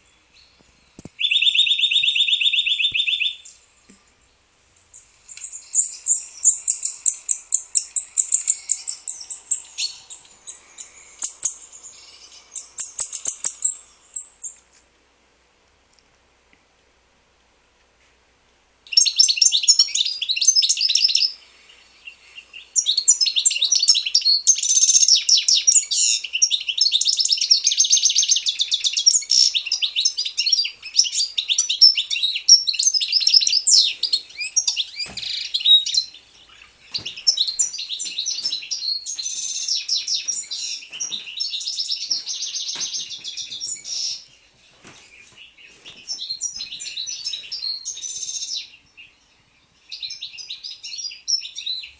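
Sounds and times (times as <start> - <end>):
small songbirds singing: 0.0 - 15.0, 18.8 - 51.9.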